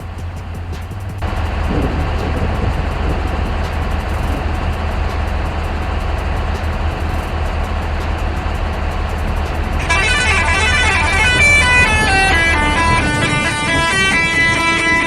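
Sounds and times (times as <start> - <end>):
melody of quick stepping notes: 0.0 - 15.0
truck engine rumble: 0.0 - 15.0.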